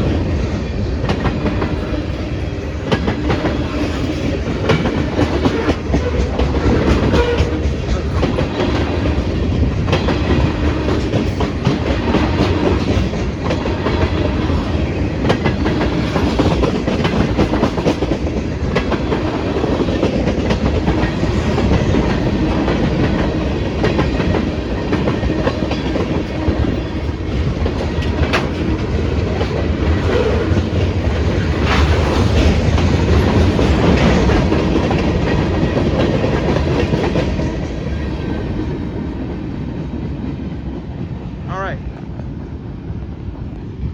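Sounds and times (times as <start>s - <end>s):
train wheels rumbling on rail: 0.0s - 43.9s
wheels clacking over rail joints: 1.0s - 40.5s.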